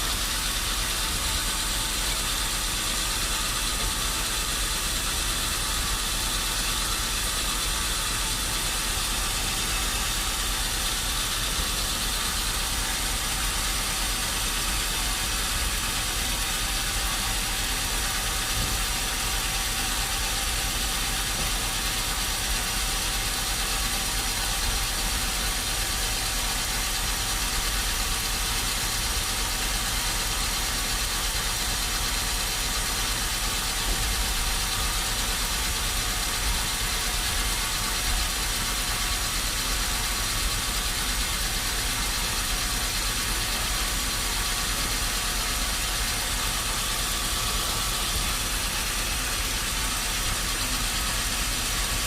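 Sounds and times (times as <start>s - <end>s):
sawmill engine humming: 0.0s - 52.0s.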